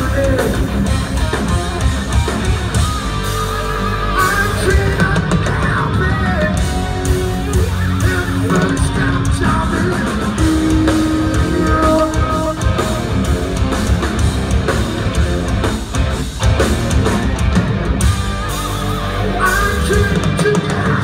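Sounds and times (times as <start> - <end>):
bass: 0.0 - 21.0
distorted electric guitars: 0.0 - 21.0
drums: 0.0 - 21.0.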